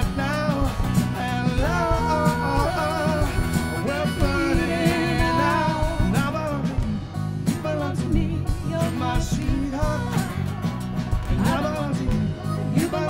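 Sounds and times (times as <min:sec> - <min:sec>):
bass: 0:00.0 - 0:13.0
drum kit: 0:00.0 - 0:13.0
guitars: 0:00.0 - 0:13.0.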